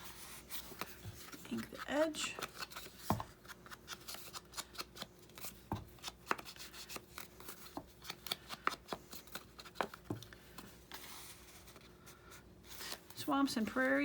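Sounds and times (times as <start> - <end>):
paper handling: 0.1 - 14.0.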